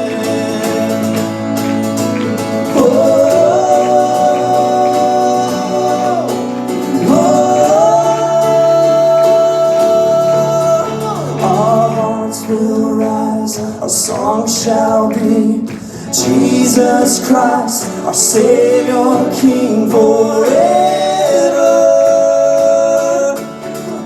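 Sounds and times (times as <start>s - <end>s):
gospel worship song with band: 0.0s - 24.0s.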